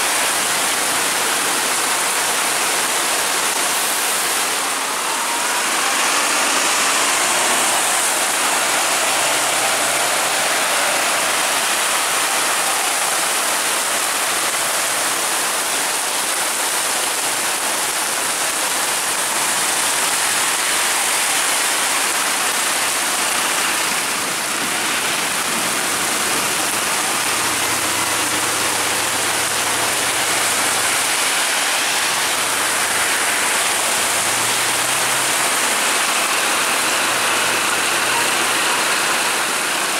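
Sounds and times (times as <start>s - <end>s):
faint bus engines running: 0.0s - 39.9s
heavy rain pouring: 0.0s - 39.9s.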